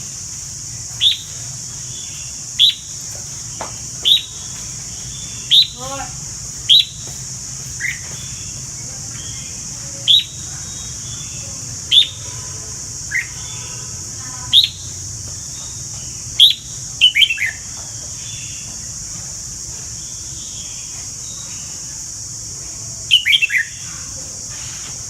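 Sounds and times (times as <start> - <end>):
steady high hiss: 0.0 - 25.0
bird chirping: 0.1 - 18.9, 23.1 - 25.0.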